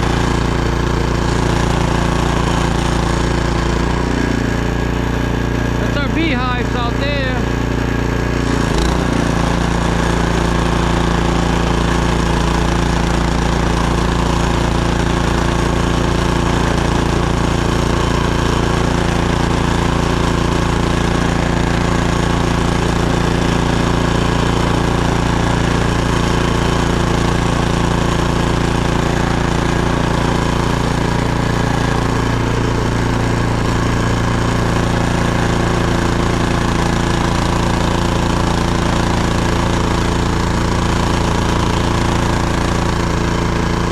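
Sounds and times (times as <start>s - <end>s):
snowblower engine running: 0.0s - 43.9s.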